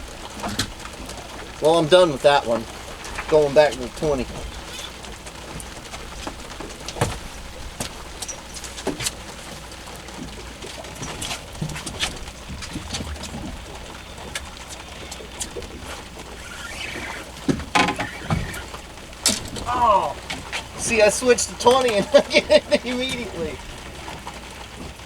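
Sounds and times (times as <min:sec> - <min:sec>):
knocks and taps on a boat: 0:00.0 - 0:25.0.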